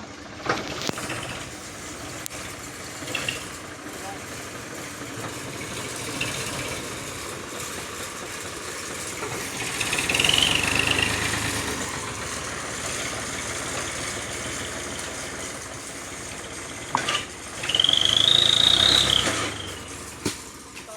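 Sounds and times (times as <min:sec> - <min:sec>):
tractor engine revving: 0:00.0 - 0:20.9.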